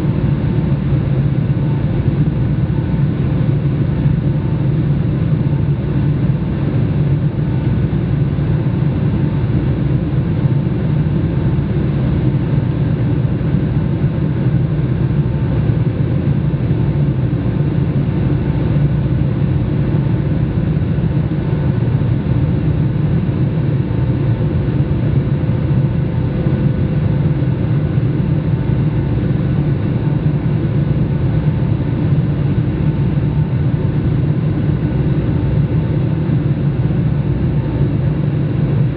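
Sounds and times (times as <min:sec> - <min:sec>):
jet cabin engine drone: 0:00.0 - 0:38.9.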